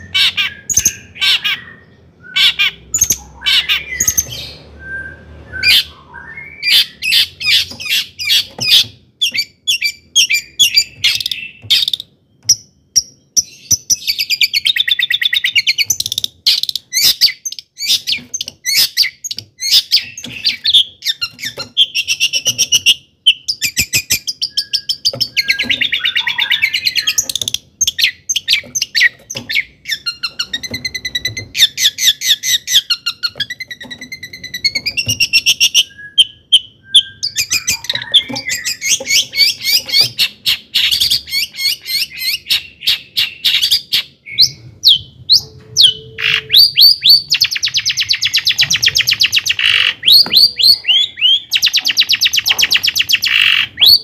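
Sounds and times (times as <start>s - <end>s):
bird singing sharp chips: 5.6s - 54.0s.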